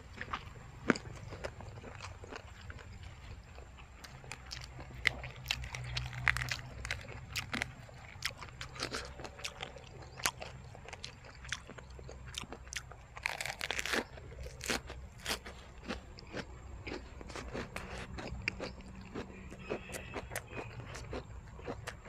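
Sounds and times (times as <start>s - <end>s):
wet crunchy chewing: 0.0s - 22.0s.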